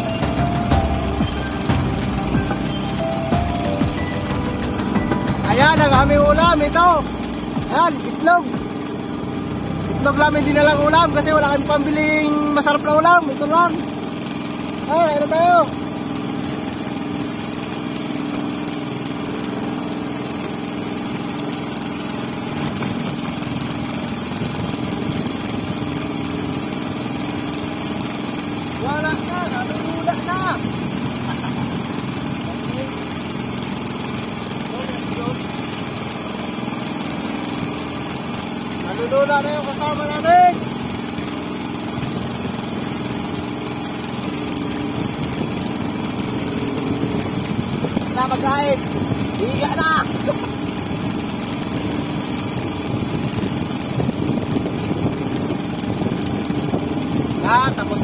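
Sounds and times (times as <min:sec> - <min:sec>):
small boat engine humming: 0:00.0 - 0:58.0.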